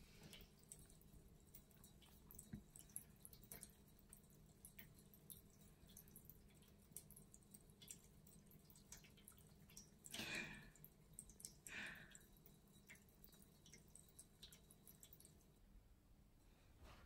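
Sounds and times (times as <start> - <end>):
water trickling into bowl: 0.1 - 15.6.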